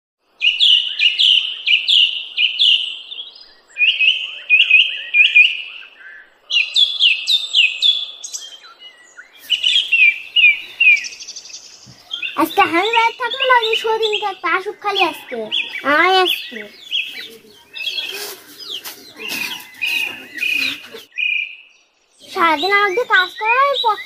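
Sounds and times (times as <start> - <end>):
bird chirping: 0.3 - 24.0.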